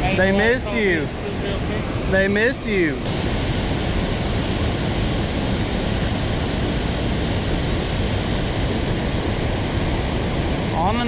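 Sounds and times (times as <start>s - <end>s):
water rushing from dam gates: 0.2s - 11.0s.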